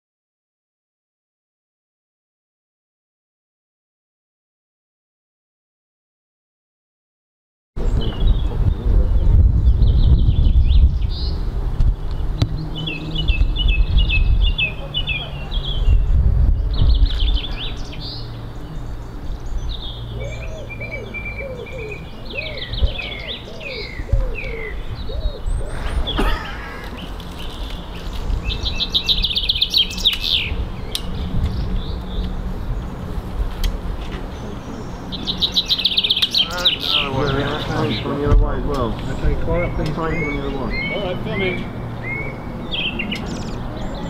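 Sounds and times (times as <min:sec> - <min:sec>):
songbirds singing and chirping: 0:07.8 - 0:44.0
steady low rumble: 0:07.8 - 0:44.0.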